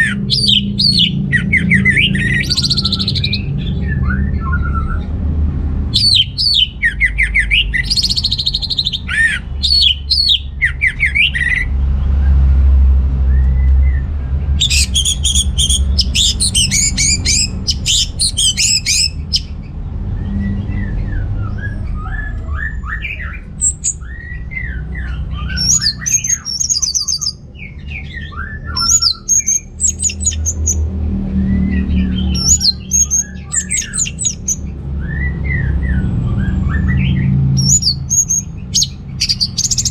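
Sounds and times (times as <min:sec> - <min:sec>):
thrush singing: 0:00.0 - 0:04.9, 0:05.8 - 0:11.7, 0:14.6 - 0:39.9.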